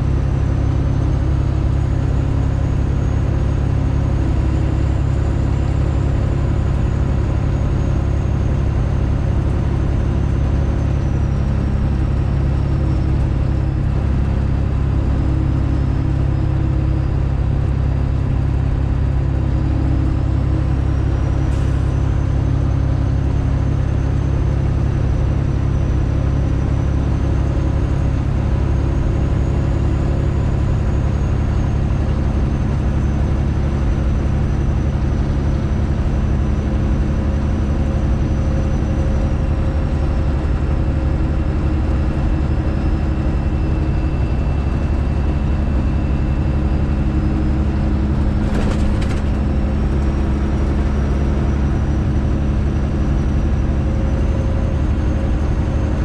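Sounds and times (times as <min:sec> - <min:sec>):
loud diesel truck engine: 0:00.0 - 0:56.0.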